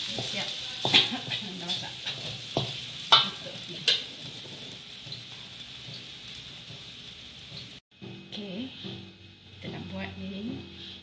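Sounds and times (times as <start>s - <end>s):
potatoes sizzling in a wok: 0.0s - 11.0s
spatula knocking against wok: 0.1s - 10.8s.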